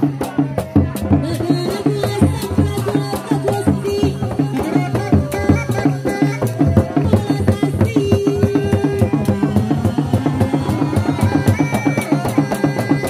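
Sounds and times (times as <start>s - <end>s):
drums beating fast rhythm: 0.0s - 13.0s.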